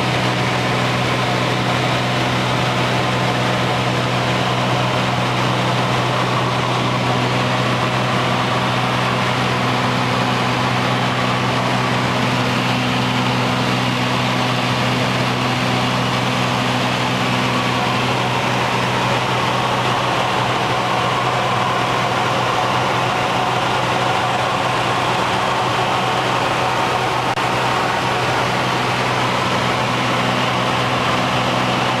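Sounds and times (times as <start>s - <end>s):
airplane engine and propeller drone: 0.0s - 32.0s.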